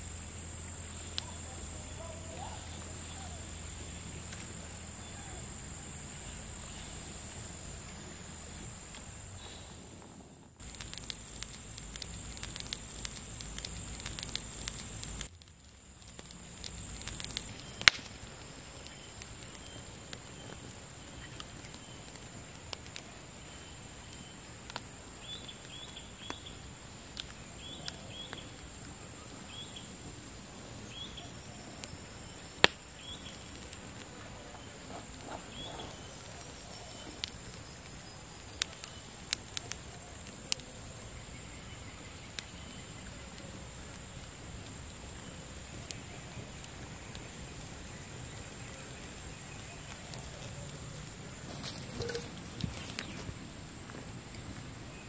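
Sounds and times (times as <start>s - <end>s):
blowing on embers: 0.0s - 55.0s
campfire crackling and popping: 0.0s - 55.0s.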